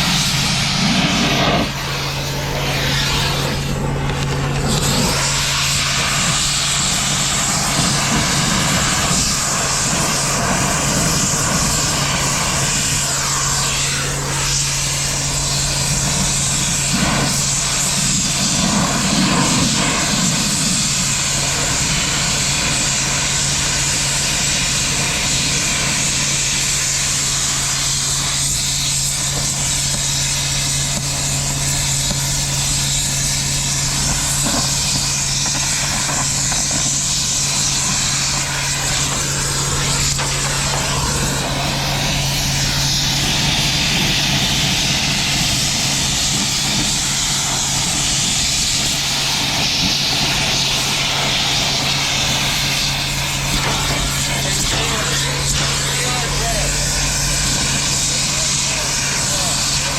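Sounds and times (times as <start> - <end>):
large engine running: 0.0 - 59.9.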